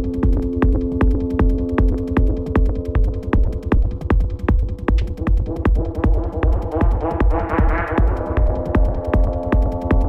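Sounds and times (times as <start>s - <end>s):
fast electronic dance music: 0.0s - 10.0s.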